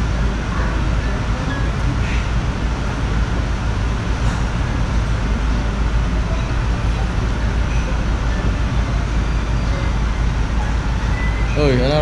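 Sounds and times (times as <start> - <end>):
loud low rumble with hiss: 0.0 - 12.0.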